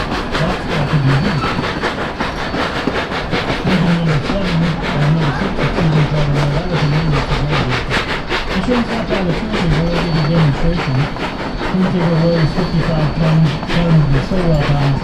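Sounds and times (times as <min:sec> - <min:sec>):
steam locomotive rapid beat: 0:00.0 - 0:15.0
train wheel and rail noise: 0:00.0 - 0:15.0.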